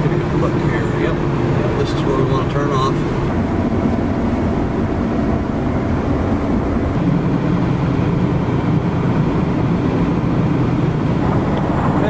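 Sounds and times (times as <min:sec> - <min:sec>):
engine hum: 0:00.0 - 0:12.0
tyre and road noise: 0:00.0 - 0:12.0.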